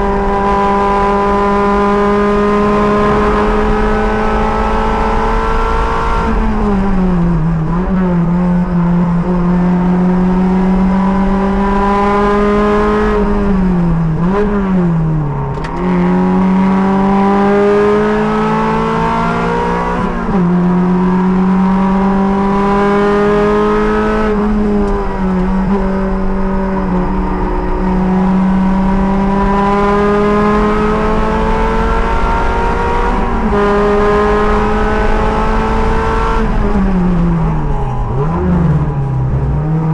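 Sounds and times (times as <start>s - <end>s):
race car engine under load: 0.0s - 39.9s.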